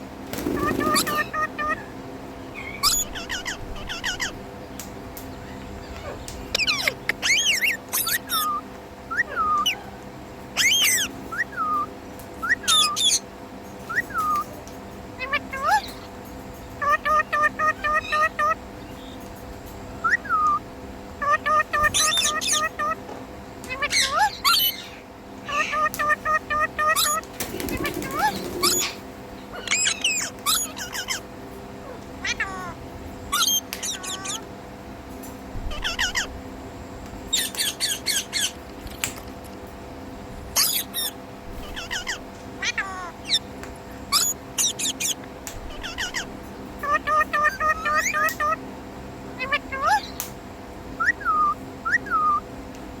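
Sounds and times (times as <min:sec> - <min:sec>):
parrot chirping and chattering: 0:00.4 - 0:01.9, 0:02.5 - 0:04.4, 0:05.4 - 0:09.8, 0:10.6 - 0:19.3, 0:20.0 - 0:34.5, 0:35.7 - 0:36.4, 0:37.3 - 0:39.6, 0:40.4 - 0:48.6, 0:49.4 - 0:50.2.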